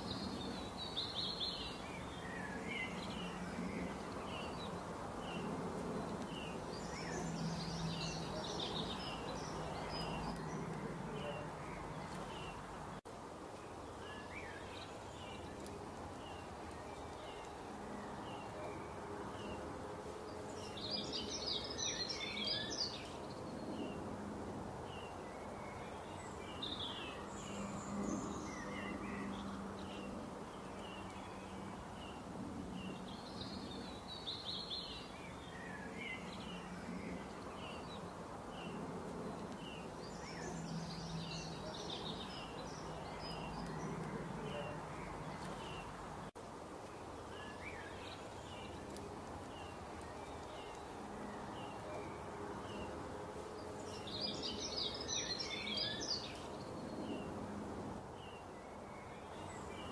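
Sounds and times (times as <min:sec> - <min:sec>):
outdoor background noise: 0:00.0 - 0:59.9
small birds chirping: 0:00.0 - 0:59.9.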